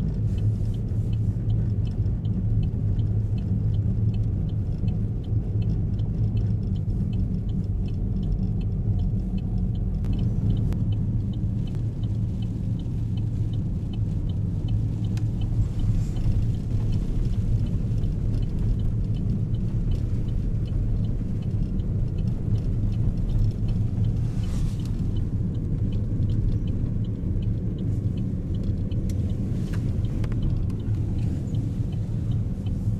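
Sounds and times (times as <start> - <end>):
car engine and tyres rumbling: 0.0 - 32.9
faint regular ticking: 0.0 - 32.9.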